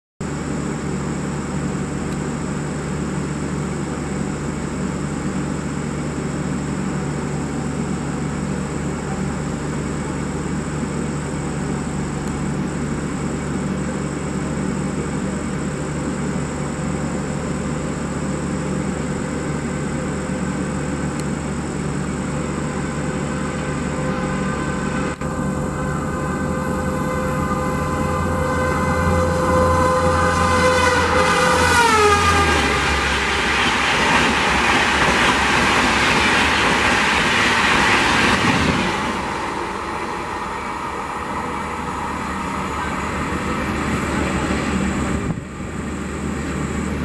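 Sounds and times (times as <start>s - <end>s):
standing train hum and rumble: 0.2s - 47.0s
thin high whine: 0.3s - 47.0s.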